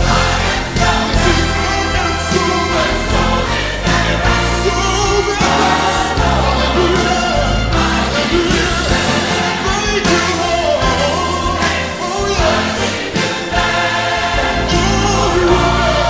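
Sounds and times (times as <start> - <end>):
instrumental backing with bass: 0.0 - 16.0
voices singing together: 0.0 - 16.0.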